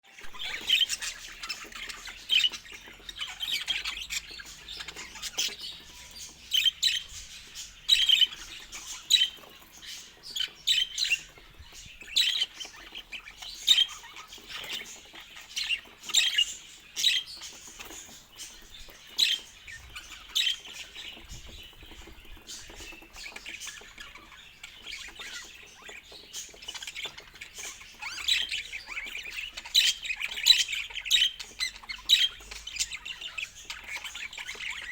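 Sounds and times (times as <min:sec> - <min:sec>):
budgerigars chirping and squawking: 0:00.0 - 0:34.9.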